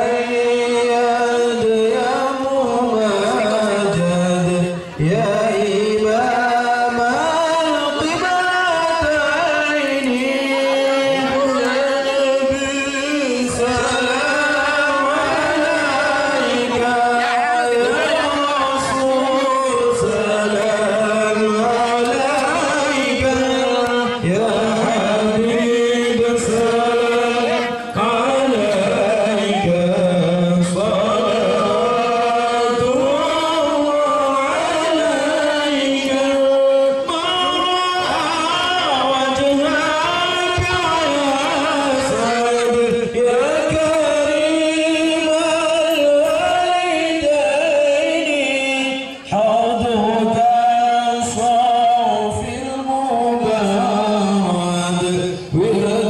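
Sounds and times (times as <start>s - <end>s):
devotional praise chanting: 0.0s - 56.0s.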